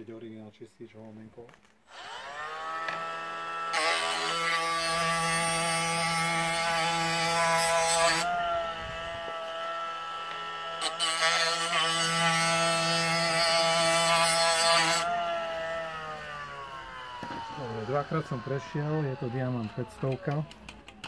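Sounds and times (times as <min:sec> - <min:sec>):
drill motor whine: 0:01.9 - 0:20.7.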